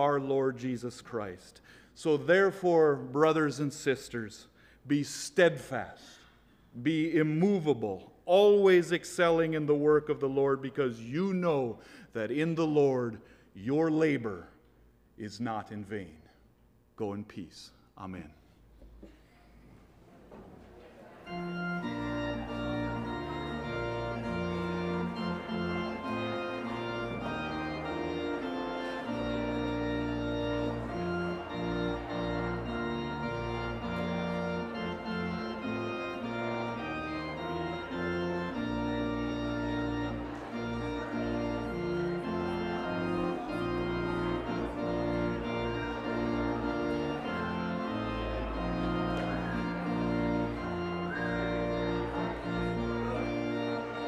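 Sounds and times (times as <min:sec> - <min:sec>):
church organ chords: 0:00.0 - 0:16.4, 0:21.2 - 0:54.0.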